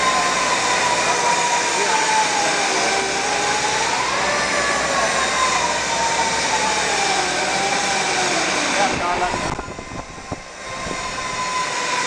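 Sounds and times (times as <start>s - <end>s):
band saw running with faint whine: 0.0s - 12.0s.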